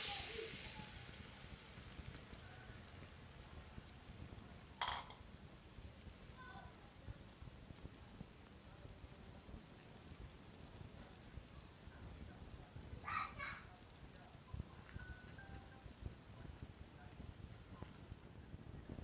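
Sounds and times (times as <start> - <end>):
egg sizzling in hot oil: 0.0 - 19.0.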